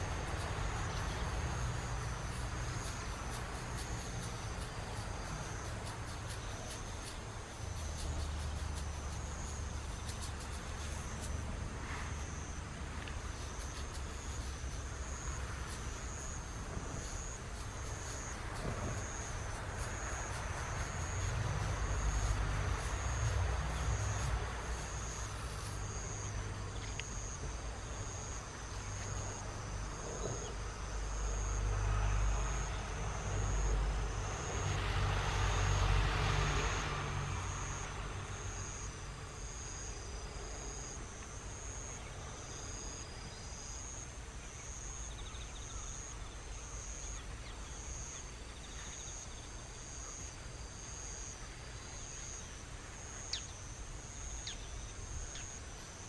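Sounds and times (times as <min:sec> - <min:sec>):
insect chirping: 0:00.0 - 0:56.0
low rumble of traffic: 0:00.0 - 0:56.0.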